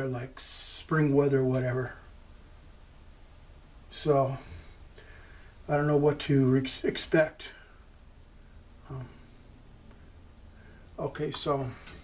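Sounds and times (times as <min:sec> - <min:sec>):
faint steady low hum: 0:00.0 - 0:12.0.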